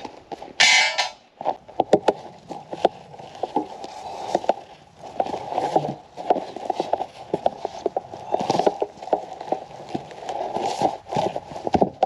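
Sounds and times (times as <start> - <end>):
boots crunching on snow: 0.0 - 11.9.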